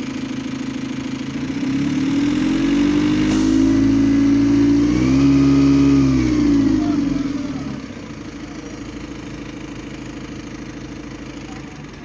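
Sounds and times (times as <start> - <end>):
bus diesel engine pulling away: 0.0 - 12.0.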